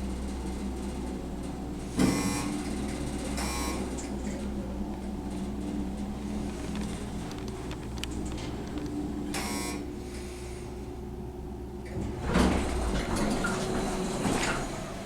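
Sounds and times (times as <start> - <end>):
elevator car humming: 0.0 - 15.0
elevator doors rumbling open: 0.0 - 15.0.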